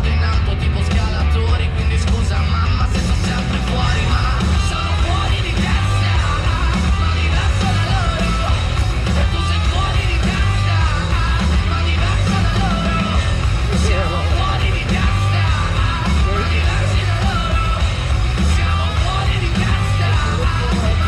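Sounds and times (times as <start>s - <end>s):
loud rock music: 0.0s - 21.0s
shouted vocal: 3.3s - 21.0s.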